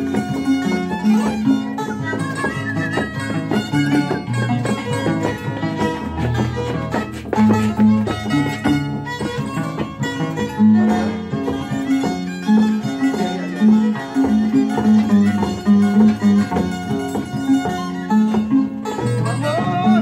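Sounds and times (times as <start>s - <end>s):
bowed violin melody: 0.0s - 20.0s
harp plucked bass notes: 0.0s - 20.0s.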